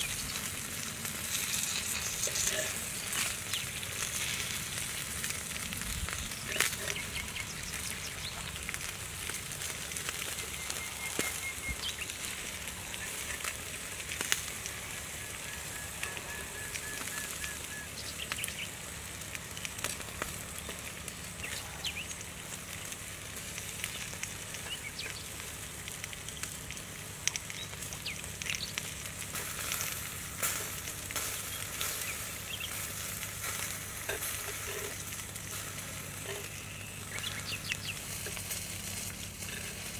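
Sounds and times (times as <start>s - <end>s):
fish sizzling on hot tiles: 0.0s - 39.9s
wood fire crackling: 0.0s - 39.9s.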